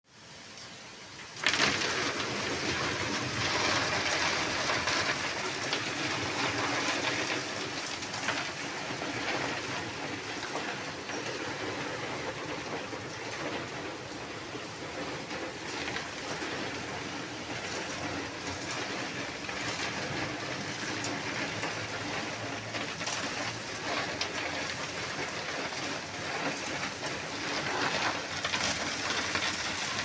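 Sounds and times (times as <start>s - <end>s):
steady rain-like hiss: 0.1s - 30.0s.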